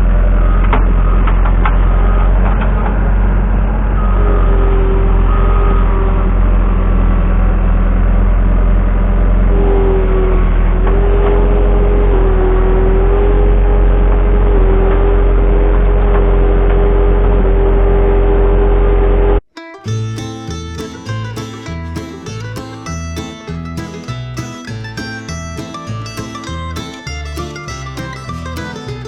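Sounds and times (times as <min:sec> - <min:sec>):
skid steer loader engine: 0:00.0 - 0:29.0.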